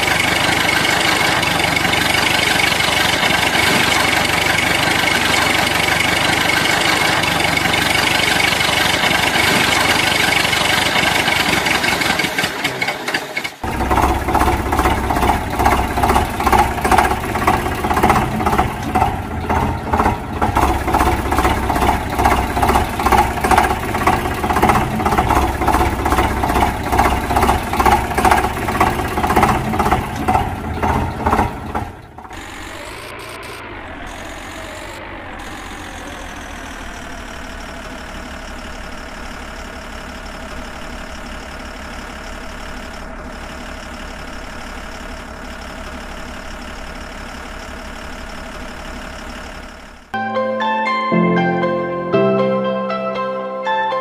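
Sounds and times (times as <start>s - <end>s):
chugging engine: 0.0s - 50.2s
tractor engine running: 0.0s - 50.2s.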